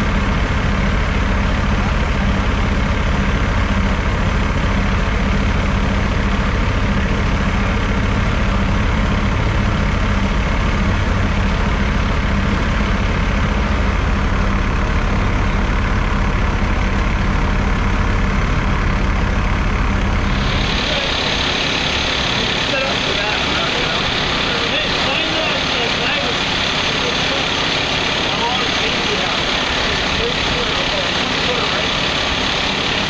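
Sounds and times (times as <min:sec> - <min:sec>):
heavy vehicle engine idling: 0:00.0 - 0:33.0.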